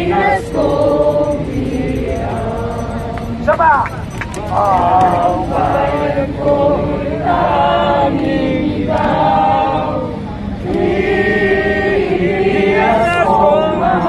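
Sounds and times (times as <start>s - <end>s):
crowd singing slow song: 0.0s - 3.5s, 4.2s - 14.0s.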